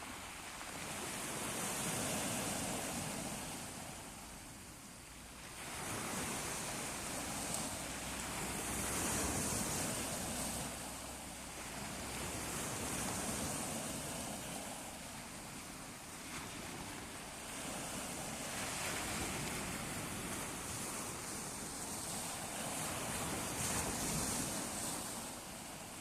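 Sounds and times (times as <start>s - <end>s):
sea waves washing in: 0.0s - 26.0s.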